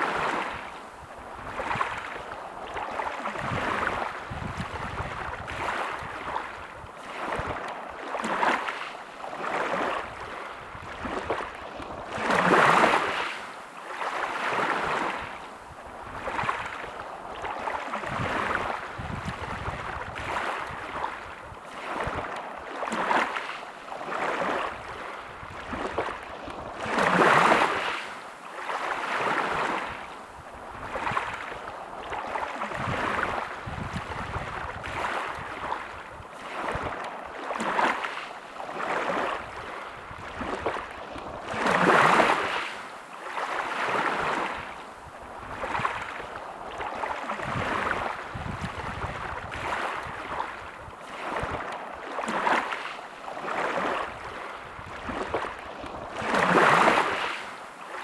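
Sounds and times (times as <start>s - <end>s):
wind rumble on microphone: 0.0s - 8.1s, 9.6s - 13.3s, 14.5s - 22.8s, 24.3s - 28.0s, 29.2s - 37.9s, 39.0s - 42.7s, 43.8s - 52.1s, 53.6s - 57.4s
sea waves washing ashore: 0.0s - 58.0s.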